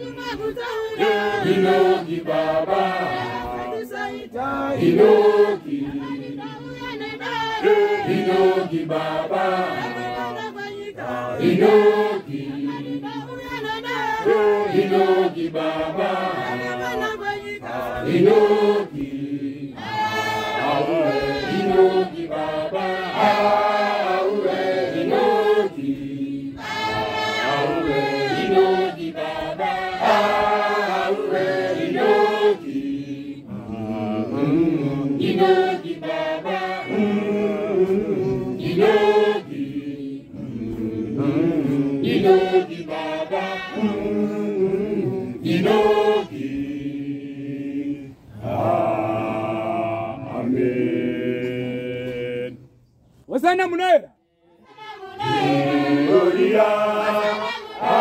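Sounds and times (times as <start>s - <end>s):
congregation singing a hymn: 0.0s - 52.7s, 54.5s - 58.0s.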